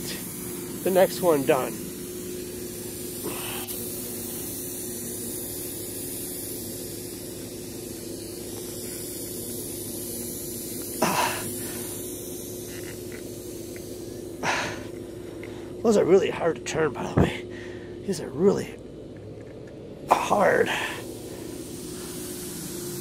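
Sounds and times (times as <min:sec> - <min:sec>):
compressed air hissing: 0:00.0 - 0:16.0, 0:20.1 - 0:23.0
air compressor running: 0:00.0 - 0:23.0.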